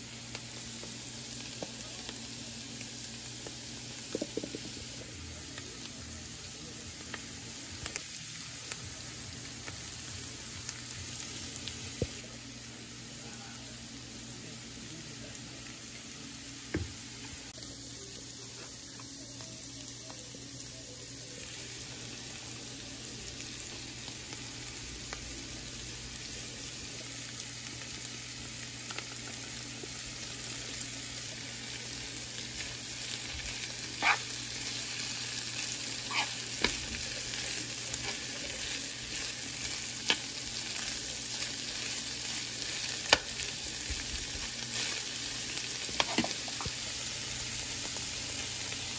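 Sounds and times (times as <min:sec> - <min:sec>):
food sizzling in a frying pan: 0:00.0 - 0:48.9.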